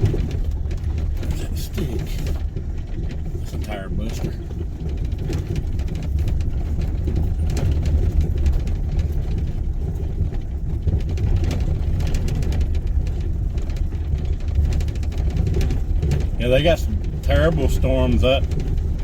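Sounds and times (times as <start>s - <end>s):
engine and tyre rumble: 0.0s - 19.0s
knocks and rattles from bumps: 0.0s - 19.0s.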